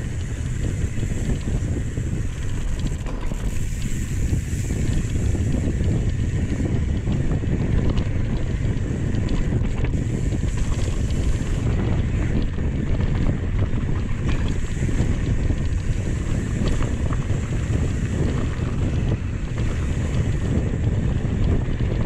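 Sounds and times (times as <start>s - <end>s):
bike rattling: 0.0s - 22.0s
wind buffeting microphone: 0.0s - 22.0s.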